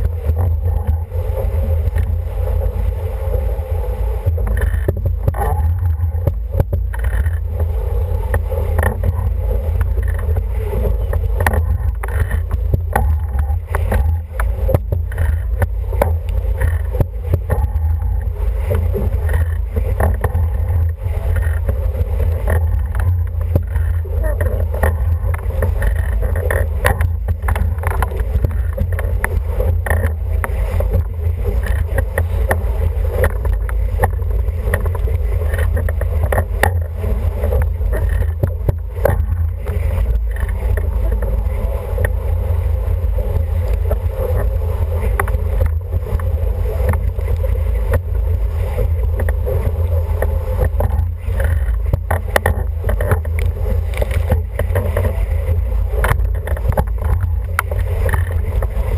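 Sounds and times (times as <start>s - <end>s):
water rushing past hull: 0.0s - 58.9s
wind buffeting microphone: 0.0s - 58.9s.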